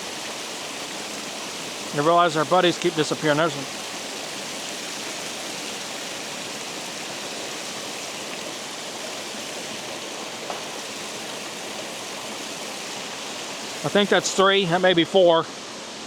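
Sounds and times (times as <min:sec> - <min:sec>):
water rushing through spillway: 0:00.0 - 0:16.0.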